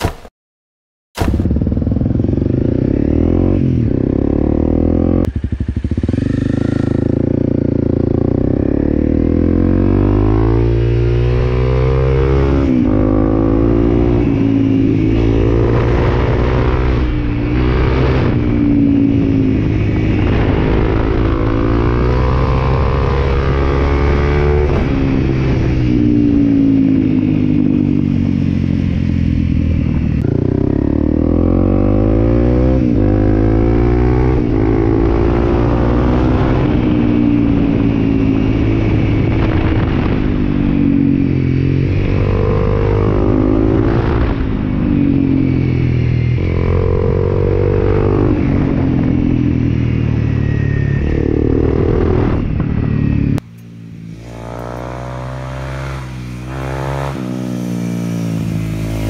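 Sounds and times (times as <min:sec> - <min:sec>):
motorcycle engine revving: 0:01.2 - 0:59.0.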